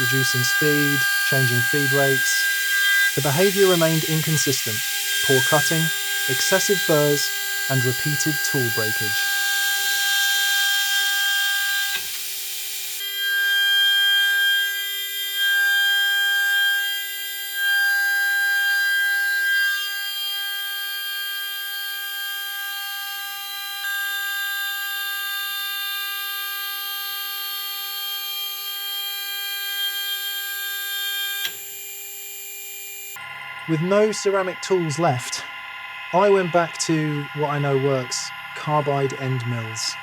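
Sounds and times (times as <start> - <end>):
milling spindle high whine: 0.0 - 23.7, 28.2 - 40.0.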